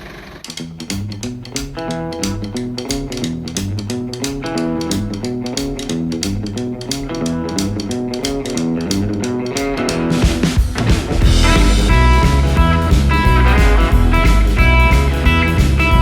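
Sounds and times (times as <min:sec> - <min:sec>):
guitar music with bass and beat: 0:00.4 - 0:16.0.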